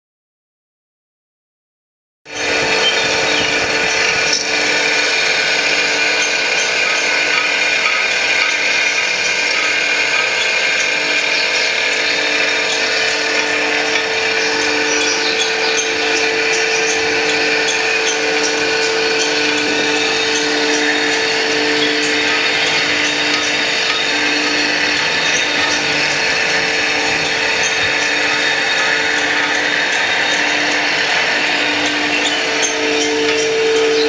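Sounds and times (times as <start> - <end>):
machine motor and cutter whining: 2.3 - 34.0.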